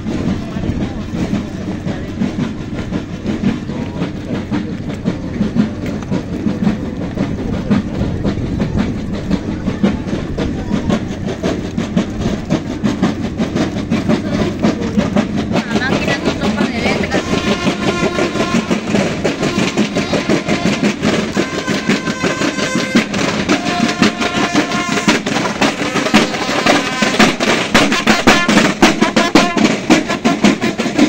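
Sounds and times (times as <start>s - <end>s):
marching footsteps on pavement: 0.0s - 31.0s.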